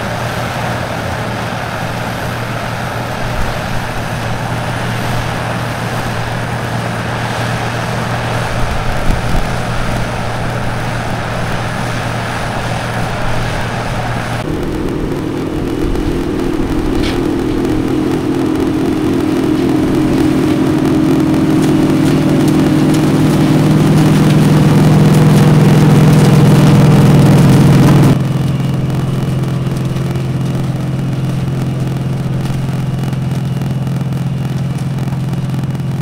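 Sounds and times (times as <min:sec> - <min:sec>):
harvester engine drone: 0:00.0 - 0:36.0.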